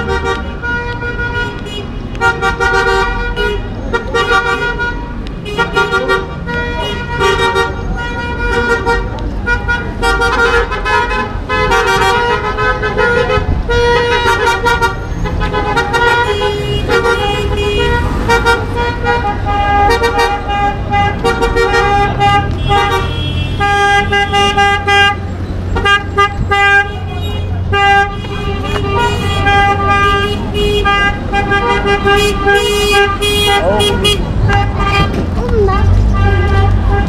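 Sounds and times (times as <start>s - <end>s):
traffic rumble: 0.0s - 37.0s
vehicle horns hooting: 0.0s - 37.0s.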